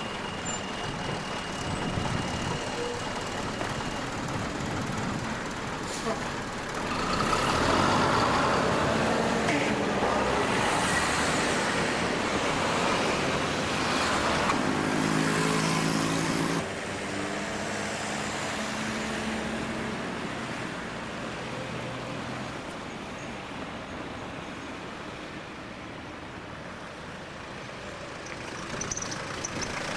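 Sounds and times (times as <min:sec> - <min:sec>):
engine hum: 0:00.0 - 0:22.8, 0:27.4 - 0:29.9
cars passing on street: 0:00.0 - 0:29.9.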